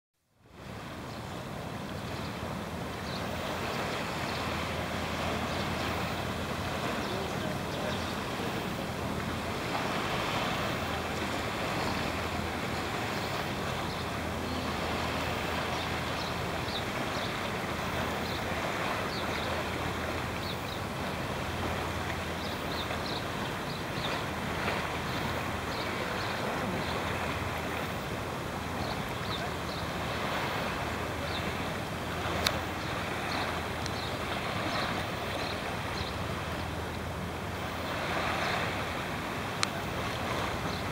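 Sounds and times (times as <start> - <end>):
sea water lapping: 0.4 - 40.9.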